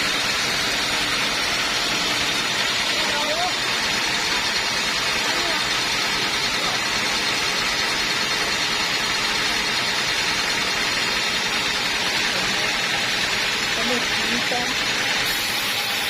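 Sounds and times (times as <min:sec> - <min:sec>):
sawmill machine running: 0:00.0 - 0:16.0.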